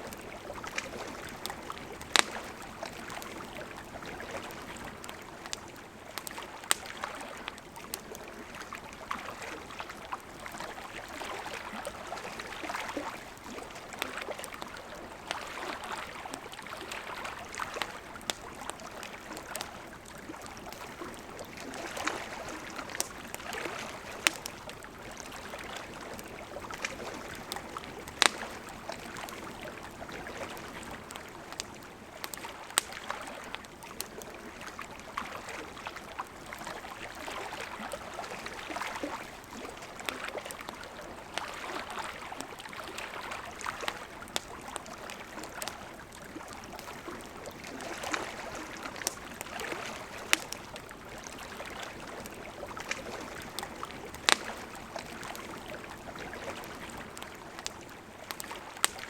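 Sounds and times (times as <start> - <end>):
campfire crackling: 0.0 - 59.0
river flowing: 0.0 - 59.0.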